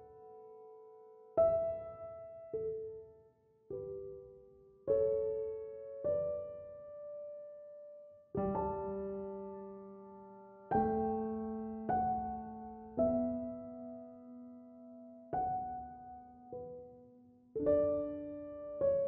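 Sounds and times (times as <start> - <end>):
soft solo piano: 0.0 - 19.0.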